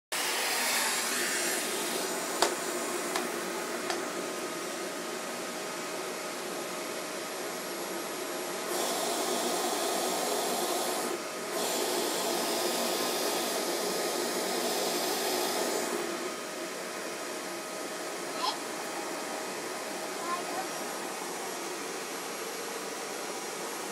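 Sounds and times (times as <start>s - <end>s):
vacuum cleaner running over carpet: 0.2s - 23.9s.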